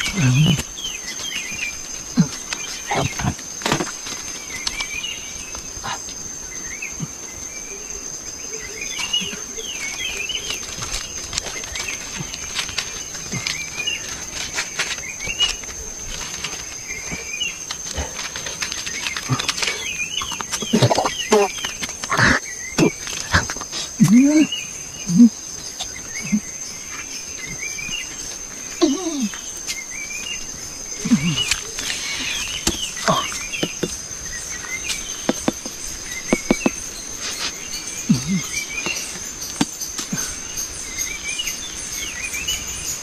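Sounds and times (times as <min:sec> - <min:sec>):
birds chirping: 0:00.0 - 0:43.0
rustling leafy branches and leaves: 0:00.0 - 0:43.0.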